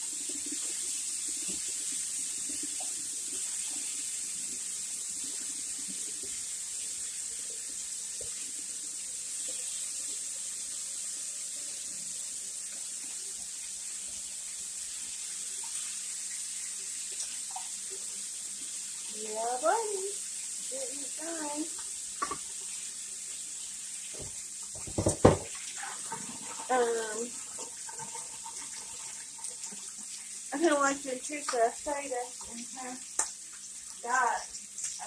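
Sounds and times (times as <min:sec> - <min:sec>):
bacon sizzling in a frying pan: 0:00.0 - 0:35.0.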